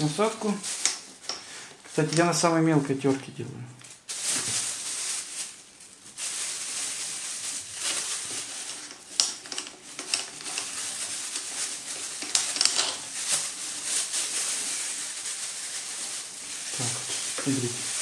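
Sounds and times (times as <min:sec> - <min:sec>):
plastic bag rustling and crinkling: 0:00.0 - 0:18.0.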